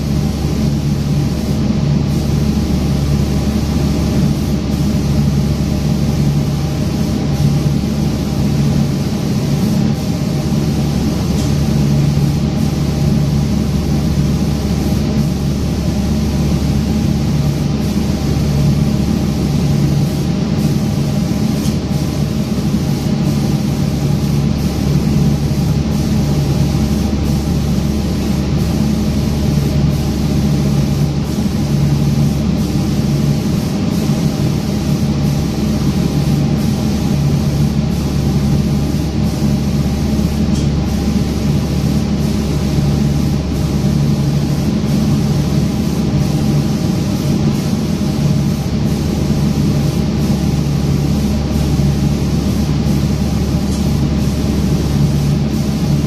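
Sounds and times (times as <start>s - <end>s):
hiss of spray: 0.0s - 56.0s
spraying machine mechanical hum: 0.0s - 56.0s.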